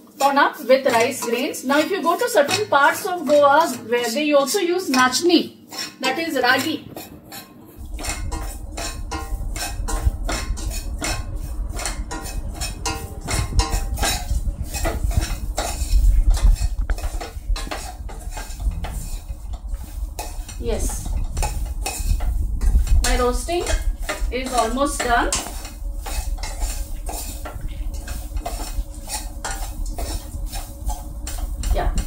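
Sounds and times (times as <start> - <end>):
spoon scraping a steel pot: 0.0 - 32.0.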